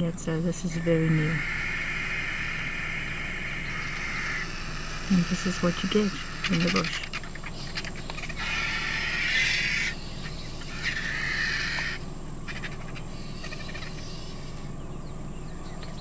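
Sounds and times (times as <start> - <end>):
vultures hissing calls: 0.0 - 14.8
low hum: 0.0 - 16.0.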